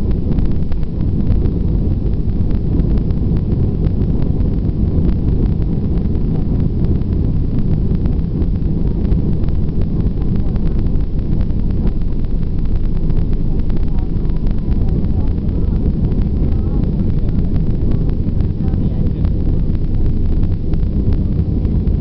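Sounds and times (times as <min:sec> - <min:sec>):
jet engine deep rumble: 0:00.0 - 0:22.0.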